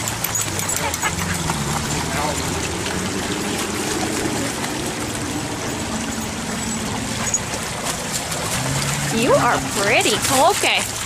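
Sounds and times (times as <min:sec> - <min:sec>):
stream water trickling: 0:00.0 - 0:11.0.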